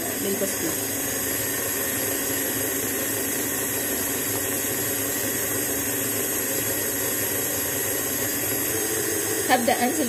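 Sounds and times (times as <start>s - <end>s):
stand mixer motor hum and whine: 0.0s - 10.0s.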